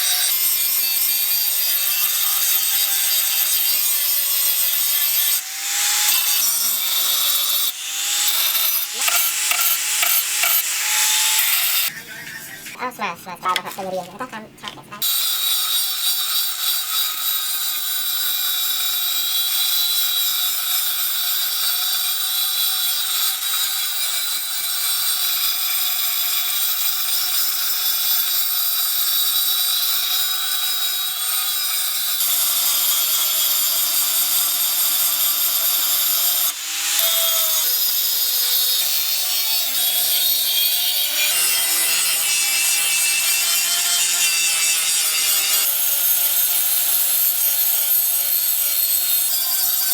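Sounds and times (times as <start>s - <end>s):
power tool grinding steel: 0.0s - 12.8s, 15.0s - 49.9s.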